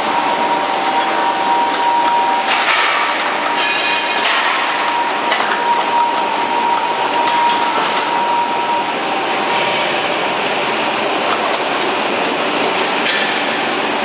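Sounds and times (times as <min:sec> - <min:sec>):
production line machinery noise: 0:00.0 - 0:14.0.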